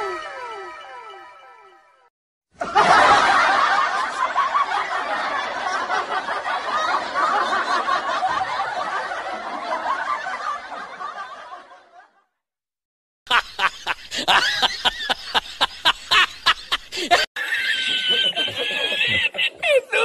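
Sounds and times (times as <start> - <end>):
crowd laughing: 2.6 - 12.3, 13.3 - 20.0.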